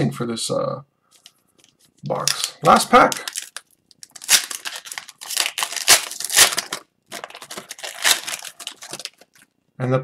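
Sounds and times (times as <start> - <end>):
foil wrapper crinkling and tearing: 1.2 - 9.5.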